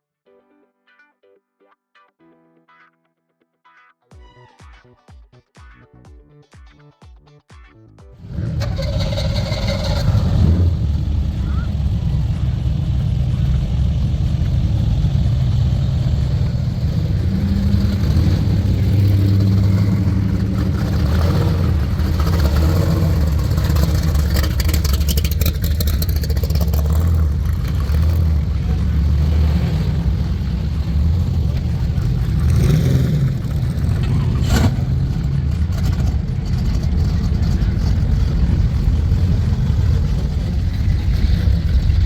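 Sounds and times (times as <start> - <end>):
car engine running at low revs: 8.2 - 42.0.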